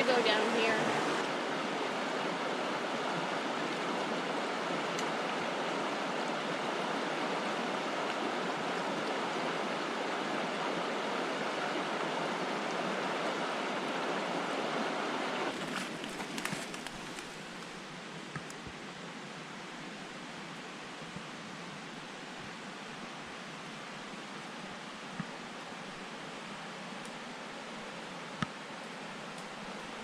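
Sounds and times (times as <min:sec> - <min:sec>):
brook water running: 0:00.0 - 0:30.0.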